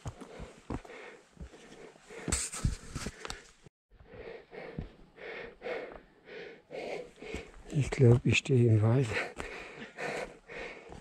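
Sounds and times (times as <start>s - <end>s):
heavy breathing: 0.0s - 7.7s, 9.0s - 11.0s
footsteps on a trail: 0.0s - 11.0s.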